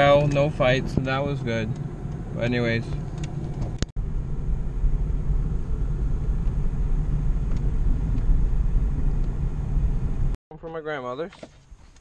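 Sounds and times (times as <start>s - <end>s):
car interior road and engine rumble: 0.0s - 10.4s.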